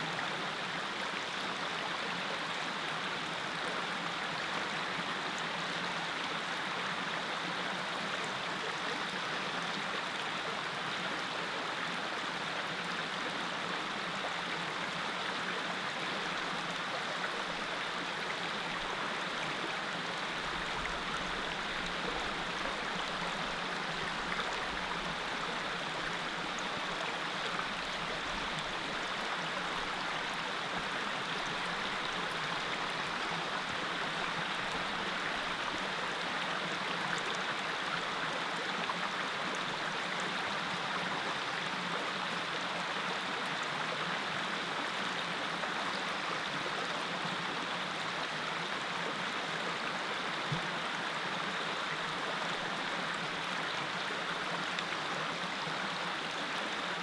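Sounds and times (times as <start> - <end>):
creek flowing: 0.0 - 57.0.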